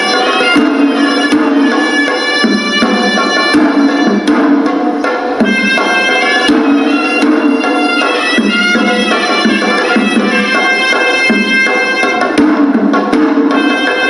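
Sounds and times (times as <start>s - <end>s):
drums striking: 0.0s - 14.0s
reedy shawm melody: 0.0s - 14.0s.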